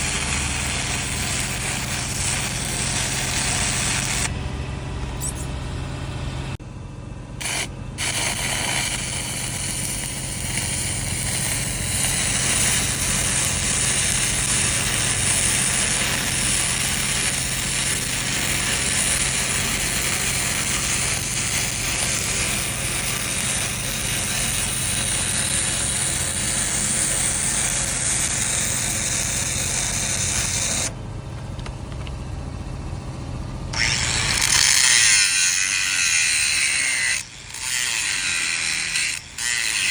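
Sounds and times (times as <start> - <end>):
welding arc crackling: 0.0 - 4.3, 7.4 - 30.9, 33.8 - 39.9
steady low hum: 0.0 - 39.4.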